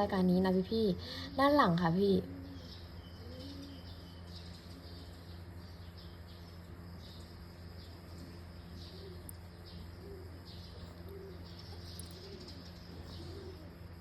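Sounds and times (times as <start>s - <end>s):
low electrical hum: 0.0s - 14.0s
doves cooing: 0.8s - 6.3s, 7.2s - 14.0s
bird chirps: 1.2s - 14.0s.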